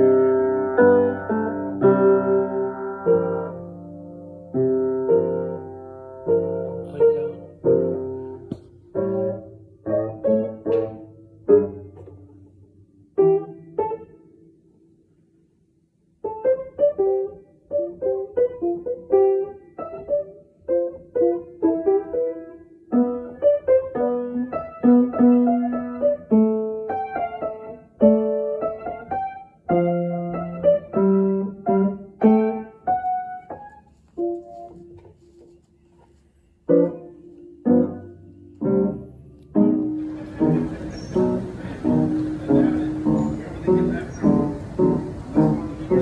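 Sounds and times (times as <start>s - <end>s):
slow piano melody: 0.0s - 46.0s.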